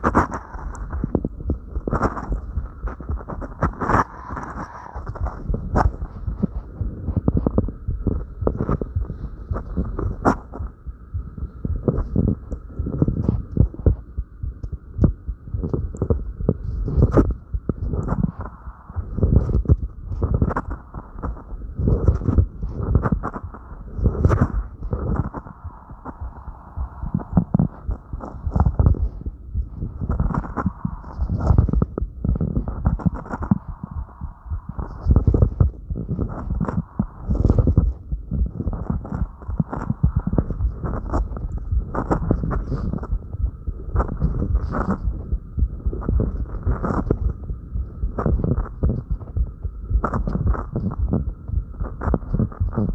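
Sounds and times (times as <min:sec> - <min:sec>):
faint steady hum: 0:00.0 - 0:52.9
fast heartbeat thuds: 0:00.0 - 0:52.9.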